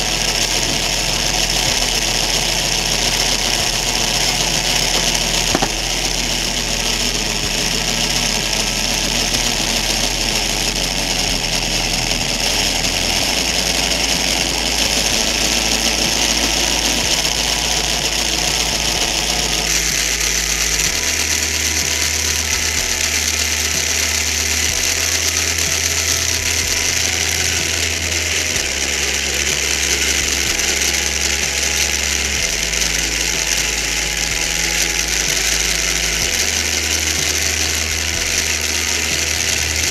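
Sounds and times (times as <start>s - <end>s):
plastic gears whirring: 0.0s - 39.9s.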